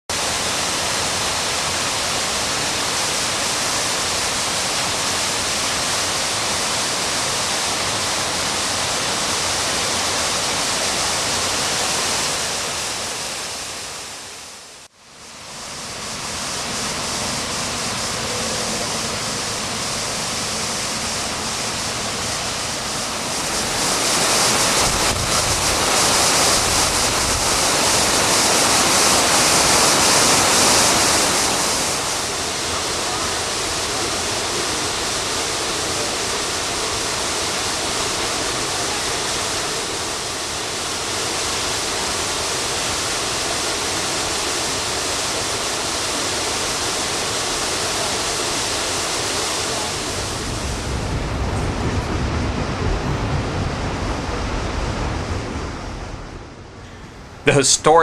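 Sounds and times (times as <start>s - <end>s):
waterfall roaring: 0.1s - 58.0s.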